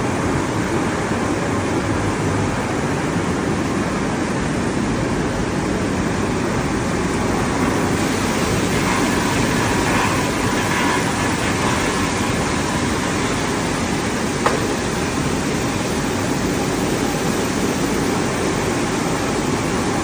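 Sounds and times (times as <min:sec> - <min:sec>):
machine running with steady rushing: 0:00.0 - 0:20.0.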